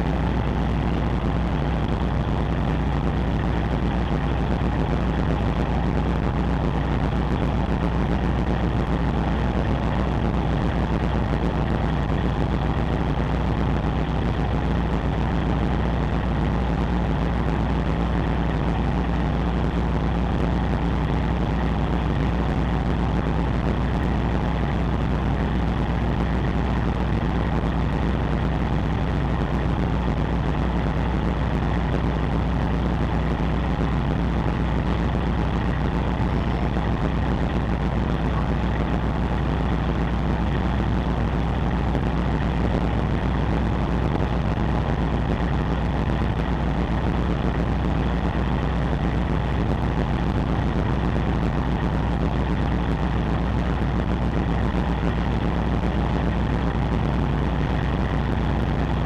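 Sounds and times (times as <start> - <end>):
ship diesel engine drone: 0.0 - 59.0.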